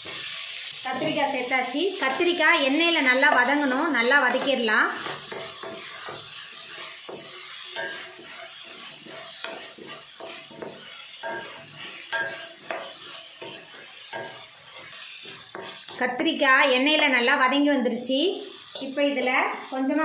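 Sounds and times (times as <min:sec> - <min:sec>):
vegetables sizzling in oil: 0:00.0 - 0:20.0
wooden spatula scraping a pan: 0:00.0 - 0:20.0.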